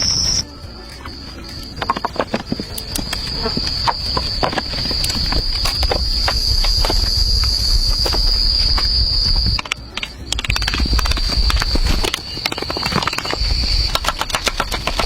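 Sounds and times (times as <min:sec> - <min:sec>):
insects droning: 0:00.0 - 0:15.0
irregular clicks and knocks: 0:01.8 - 0:15.0.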